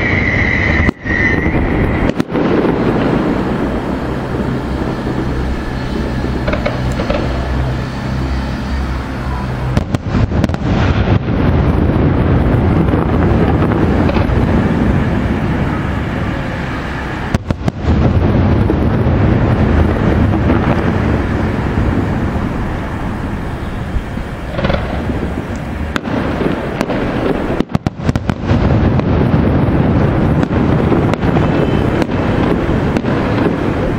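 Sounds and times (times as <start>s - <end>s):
fireworks launching and bursting: 0.0s - 33.9s
low booms: 0.0s - 33.9s.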